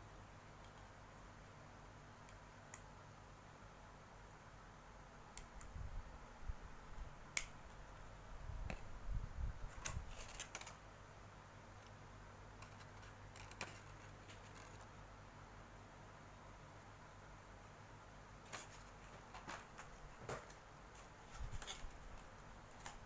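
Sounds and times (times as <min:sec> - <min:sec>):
faint room noise: 0:00.0 - 0:23.0.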